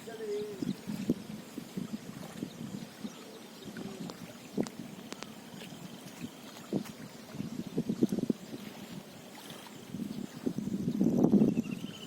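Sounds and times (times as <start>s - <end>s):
floodwater rushing: 0.0s - 10.8s
wind buffeting microphone: 0.0s - 12.0s.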